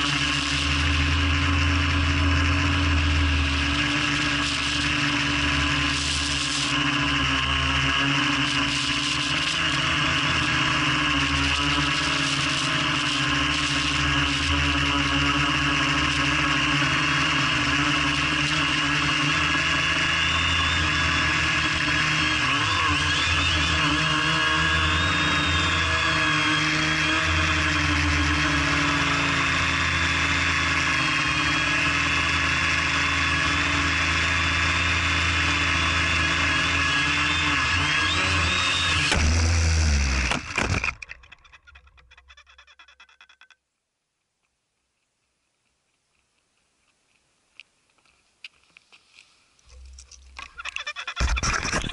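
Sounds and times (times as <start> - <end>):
drone motors and propellers whirring: 0.0 - 43.6, 49.7 - 51.9.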